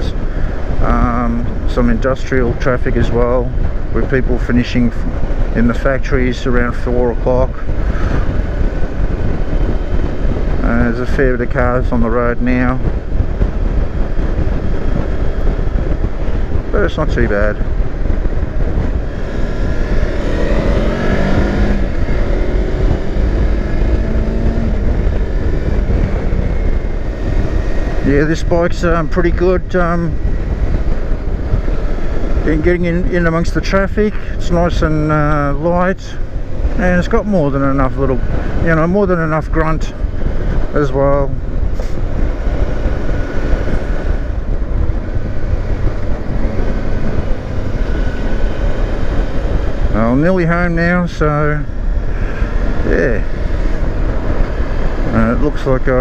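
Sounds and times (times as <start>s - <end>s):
low rumble: 0.0s - 56.0s
motorcycle engine revving: 0.0s - 56.0s.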